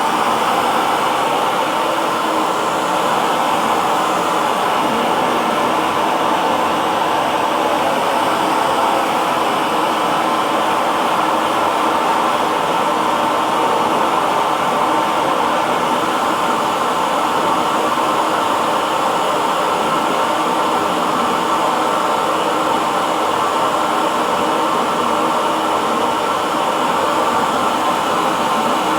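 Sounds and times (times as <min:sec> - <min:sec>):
hair dryer running: 0:00.0 - 0:28.9.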